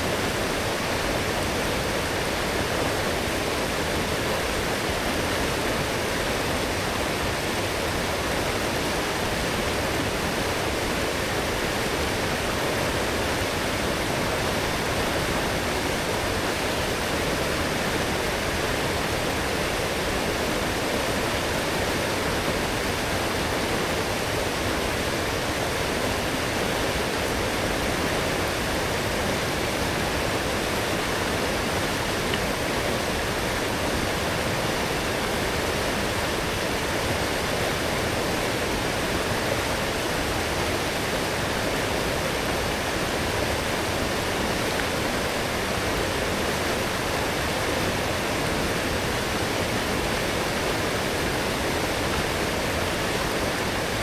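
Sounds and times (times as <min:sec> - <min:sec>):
forest stream rushing and splashing: 0:00.0 - 0:54.0.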